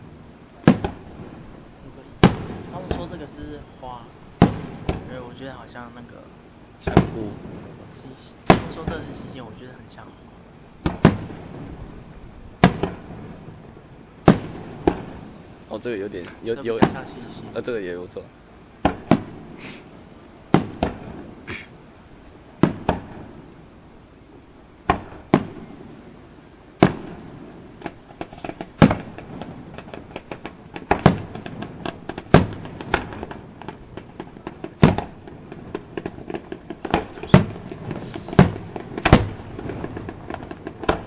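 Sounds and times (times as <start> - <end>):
fireworks bursting: 0.0 - 41.0.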